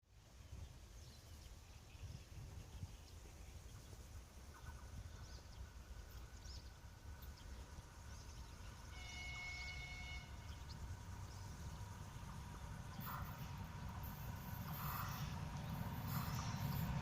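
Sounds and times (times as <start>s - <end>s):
distant diesel locomotive rumble: 0.1s - 17.0s.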